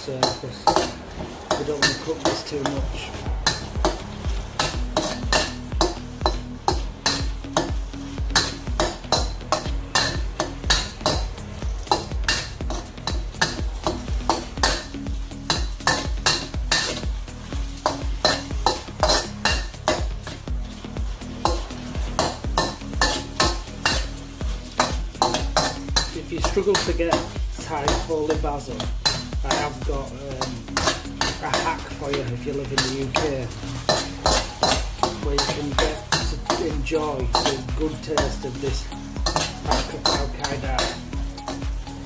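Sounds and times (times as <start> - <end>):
food sizzling: 0.0 - 42.0
utensil scraping a pan: 0.1 - 11.2, 11.9 - 42.0.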